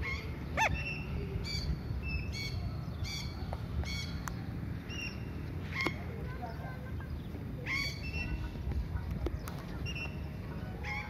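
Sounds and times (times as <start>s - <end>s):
parakeets calling: 0.0s - 11.0s.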